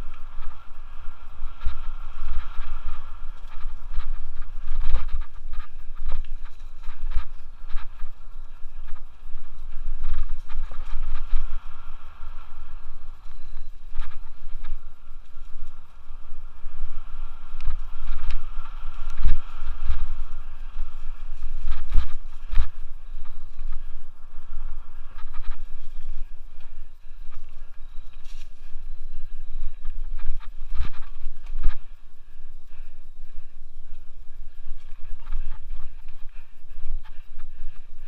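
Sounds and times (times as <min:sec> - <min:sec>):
bike rattling over bumps: 0:00.0 - 0:38.0
bike tyres on dirt and leaves: 0:00.0 - 0:38.0
wind buffeting microphone: 0:00.0 - 0:38.0.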